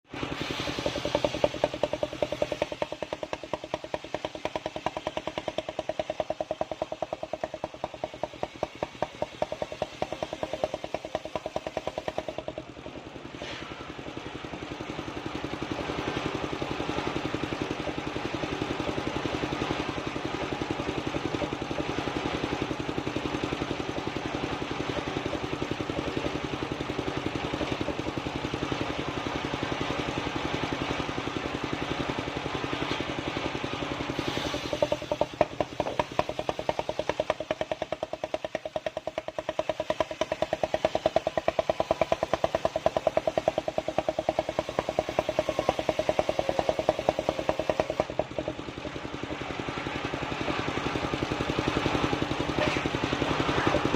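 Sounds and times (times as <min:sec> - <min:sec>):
sawmill engine chugging: 0:00.0 - 0:53.9.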